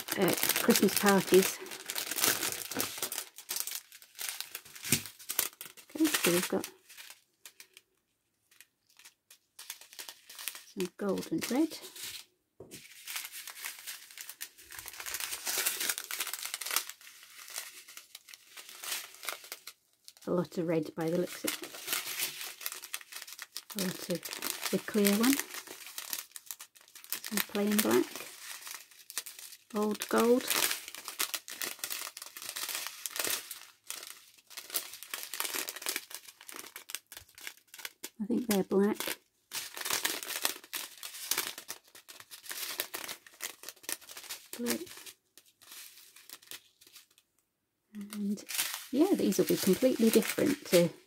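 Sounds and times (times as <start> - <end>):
plastic bags crinkling: 0.0 - 47.2, 48.0 - 51.0.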